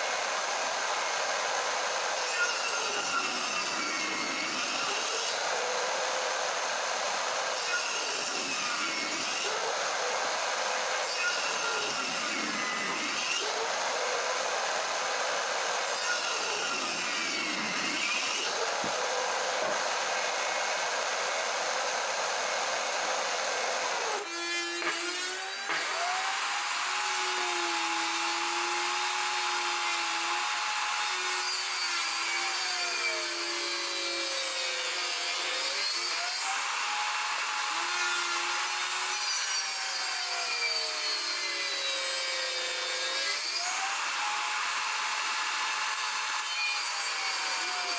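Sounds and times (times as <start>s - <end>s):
table saw cutting wood: 0.0s - 47.9s.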